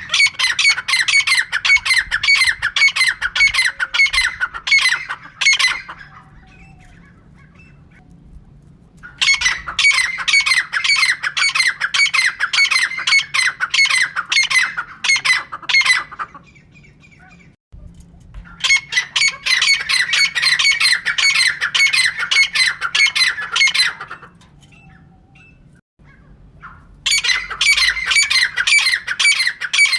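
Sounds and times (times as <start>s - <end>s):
bird harsh squawking calls: 0.0s - 8.0s, 9.1s - 17.6s, 18.5s - 29.9s.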